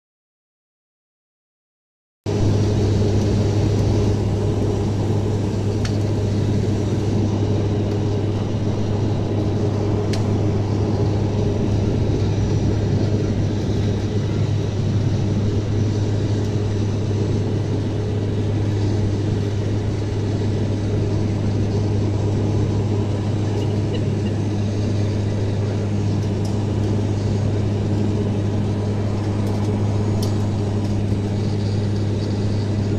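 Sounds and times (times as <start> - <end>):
turboprop cabin drone: 2.3 - 32.9.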